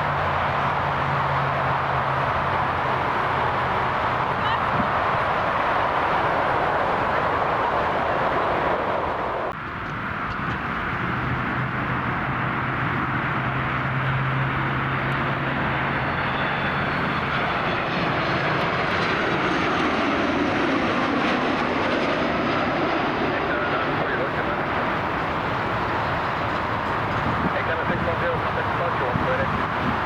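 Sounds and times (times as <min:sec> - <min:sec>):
airliner engine rush: 0:00.0 - 0:30.0.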